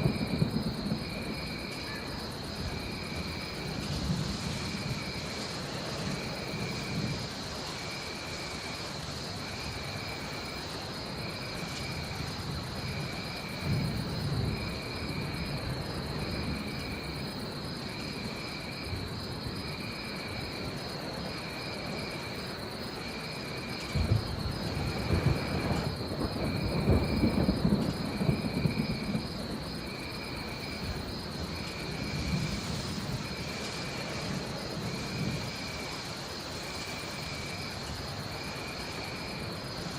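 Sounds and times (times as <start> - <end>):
low rolling thunder: 0.0 - 39.9
shrill insect trill: 0.0 - 39.9
steady rain: 0.0 - 39.9.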